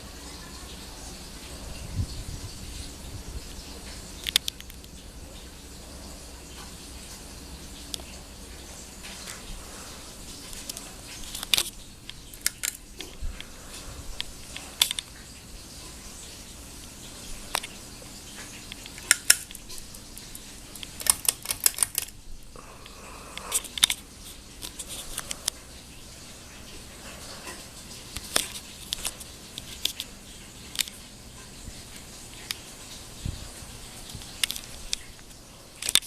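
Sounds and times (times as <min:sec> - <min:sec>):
ceiling fan humming: 0:00.0 - 0:36.0.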